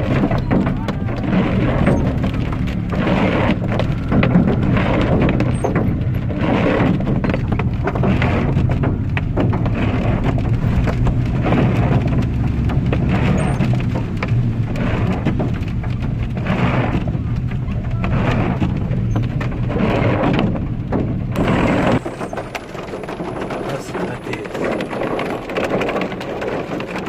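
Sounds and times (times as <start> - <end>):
low rumble: 0.0 - 26.0
raindrops ticking: 0.0 - 27.0.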